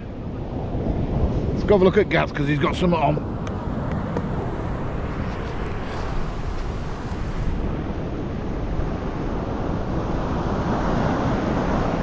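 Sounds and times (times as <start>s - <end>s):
surf washing on beach: 0.0s - 12.0s
wind rumbling on microphone: 0.0s - 12.0s.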